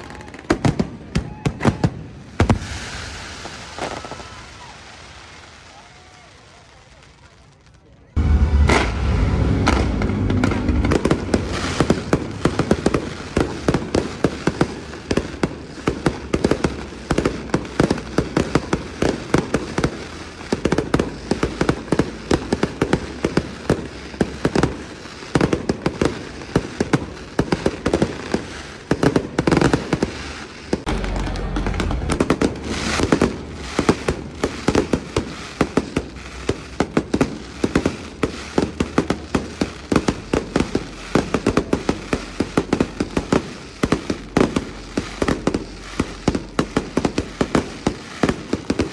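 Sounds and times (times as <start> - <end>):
fireworks crackling and popping: 0.0 - 48.9
fireworks low booms: 8.2 - 48.9.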